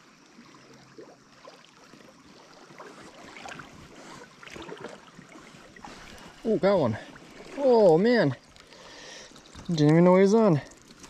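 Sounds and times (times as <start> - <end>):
small splashes: 0.0 - 11.0
stream trickling over rocks: 0.0 - 11.0.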